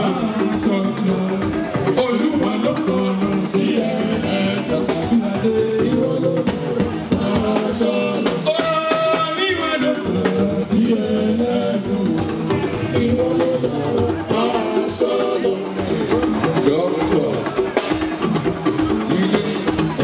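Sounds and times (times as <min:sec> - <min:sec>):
drums: 0:00.0 - 0:20.0
live band music: 0:00.0 - 0:20.0
singing: 0:00.0 - 0:20.0.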